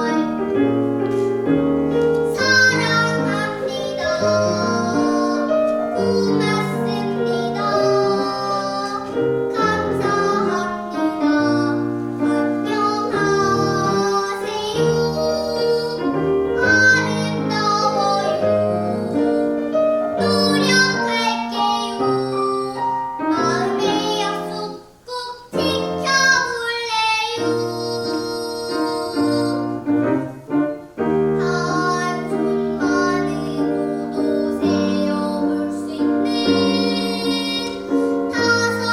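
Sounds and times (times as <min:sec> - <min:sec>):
girl singing: 0:00.0 - 0:30.1, 0:31.0 - 0:38.9
piano accompaniment: 0:00.0 - 0:38.9.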